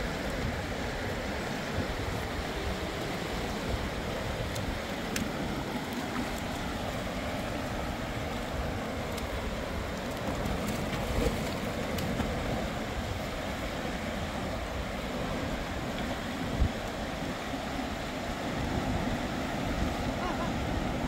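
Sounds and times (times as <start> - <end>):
river rushing over stones: 0.0 - 21.0.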